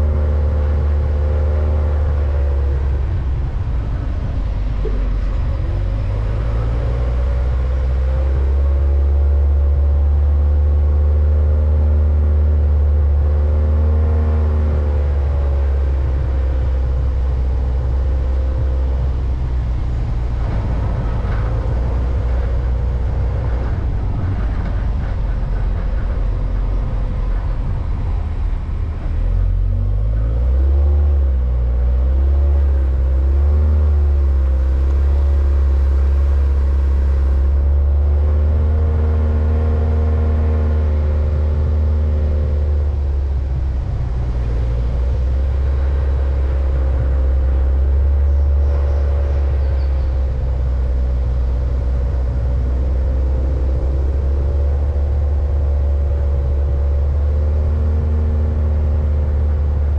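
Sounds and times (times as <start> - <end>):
road and wind noise: 0.0 - 59.9
vehicle engine running: 0.0 - 59.9.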